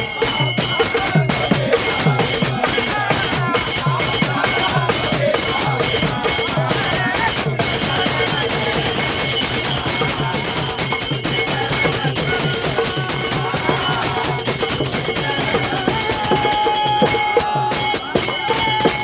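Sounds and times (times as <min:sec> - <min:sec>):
hand drum beating: 0:00.0 - 0:19.0
small hand cymbals ringing: 0:00.0 - 0:19.0.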